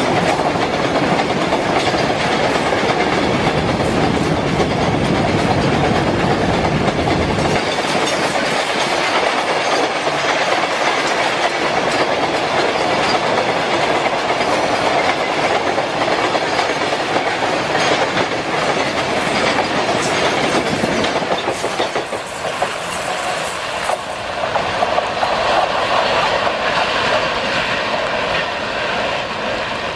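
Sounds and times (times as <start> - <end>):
train wheels clattering over rail joints: 0.0 - 29.9.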